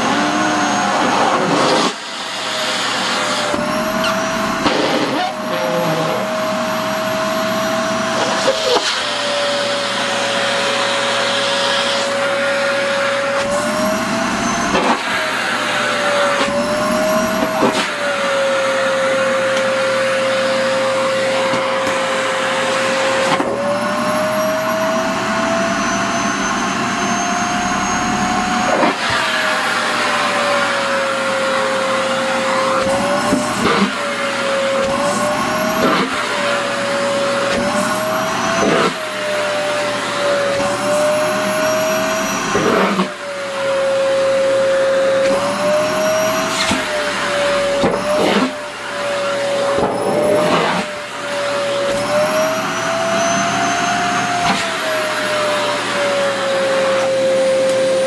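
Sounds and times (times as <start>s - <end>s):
vacuum cleaner motor whine: 0.0s - 58.0s.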